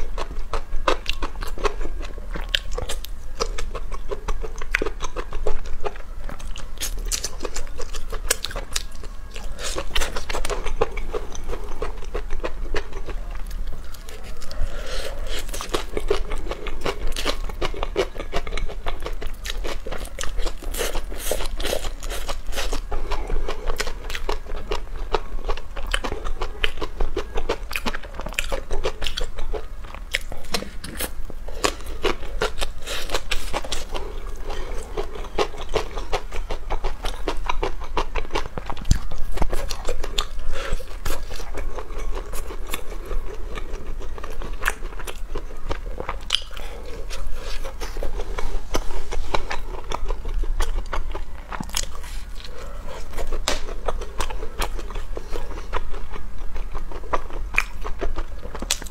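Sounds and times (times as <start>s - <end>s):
crunchy chewing of fried food: 0.0s - 58.9s.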